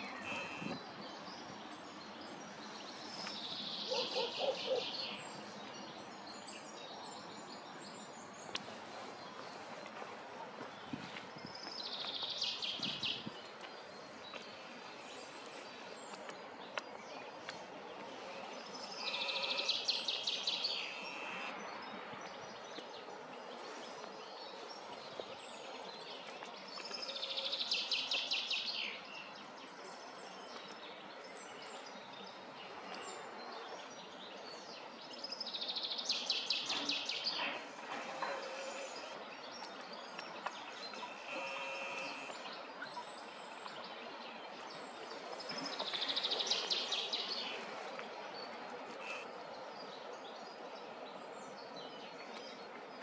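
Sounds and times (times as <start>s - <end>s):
outdoor background hiss: 0.0s - 53.0s.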